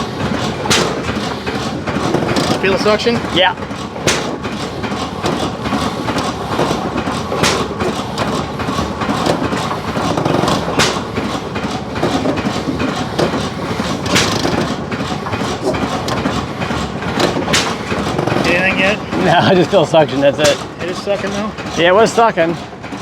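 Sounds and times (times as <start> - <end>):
sharp engine crack: 0.0 - 22.5
hit-and-miss engine clatter: 0.0 - 23.0.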